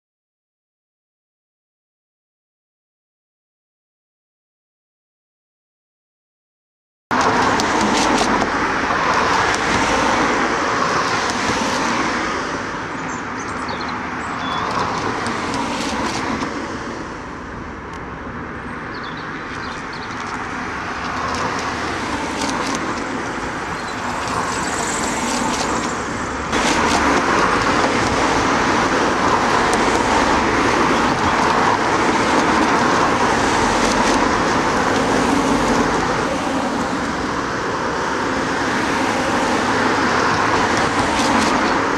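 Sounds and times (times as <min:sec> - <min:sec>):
cars passing: 0:07.1 - 0:41.9.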